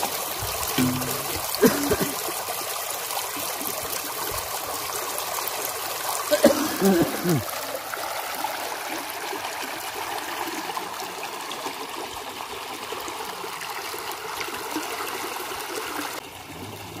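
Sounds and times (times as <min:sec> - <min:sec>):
river water trickling and splashing: 0:00.0 - 0:17.0
small drips and splashes: 0:00.0 - 0:17.0.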